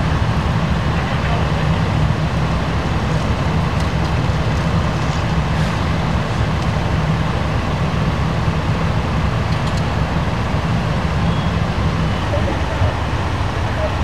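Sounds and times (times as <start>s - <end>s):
large vehicle engine idling: 0.0s - 14.0s.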